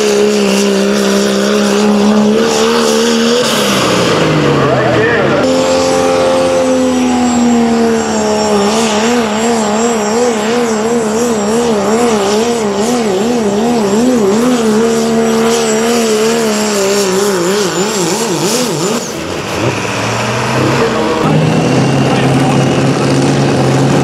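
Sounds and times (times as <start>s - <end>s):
engine running at full throttle: 0.0s - 24.0s.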